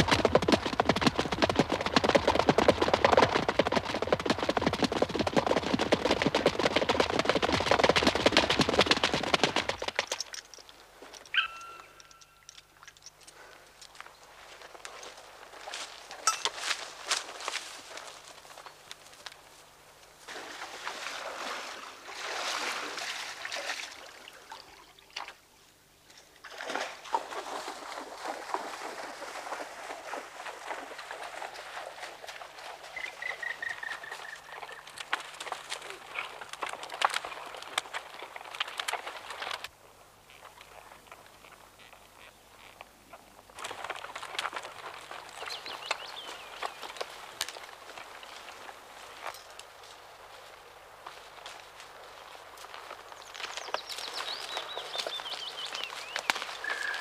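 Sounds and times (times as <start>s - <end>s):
horse hoofbeats galloping: 0.0s - 19.4s, 27.2s - 57.0s
hooves splashing in water: 0.0s - 19.6s, 20.2s - 25.5s, 26.2s - 57.0s.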